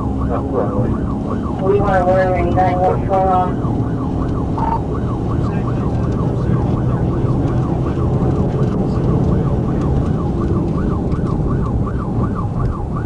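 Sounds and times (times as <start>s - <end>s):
car engine and road rumble: 0.0s - 13.0s
police siren yelping: 0.0s - 13.0s.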